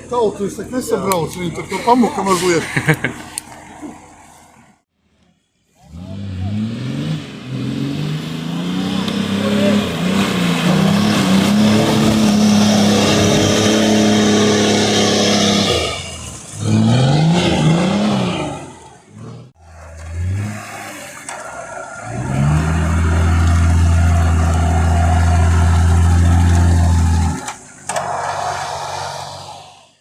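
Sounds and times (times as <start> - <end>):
off-road vehicle engine revving: 5.7 - 30.0.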